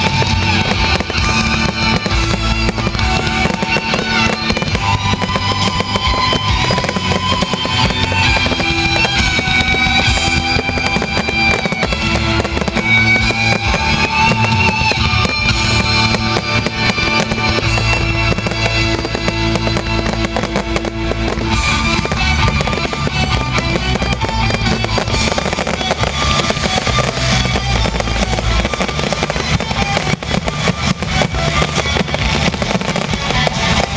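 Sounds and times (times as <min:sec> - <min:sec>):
fireworks popping and crackling: 0:00.0 - 0:33.9
guitar music: 0:00.0 - 0:33.9.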